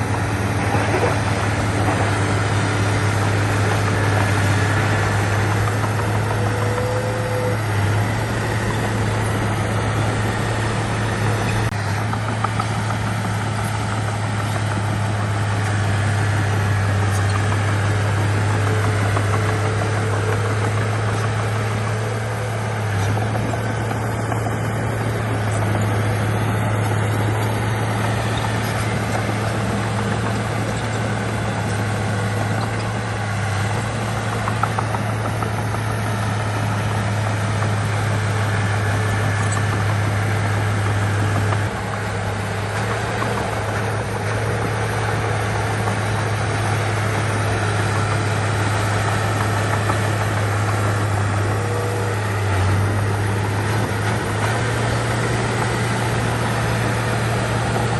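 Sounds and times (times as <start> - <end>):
heavy diesel engine droning: 0.0 - 57.9.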